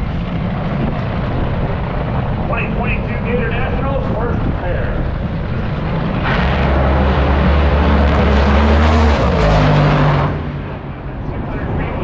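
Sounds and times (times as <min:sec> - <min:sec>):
racing car engine at full throttle: 0:00.0 - 0:12.0.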